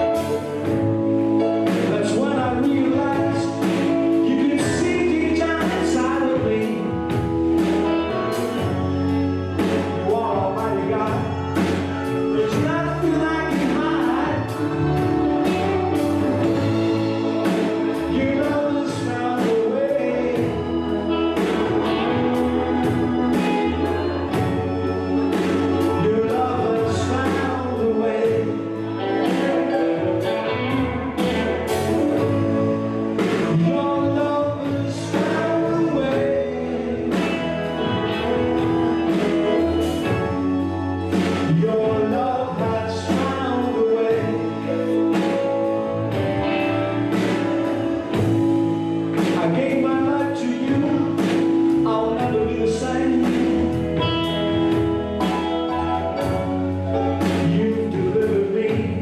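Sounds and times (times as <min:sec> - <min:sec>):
gospel singing with band: 0:00.0 - 0:59.0
steady drum beat: 0:00.0 - 0:59.0.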